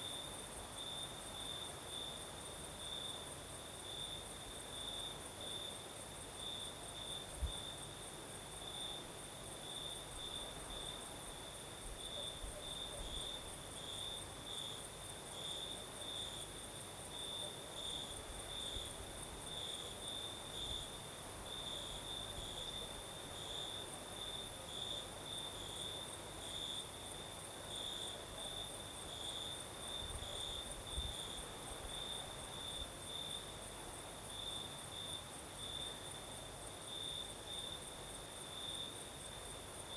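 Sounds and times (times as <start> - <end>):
crickets chirping: 0.0 - 39.9
faint breeze: 0.0 - 39.9.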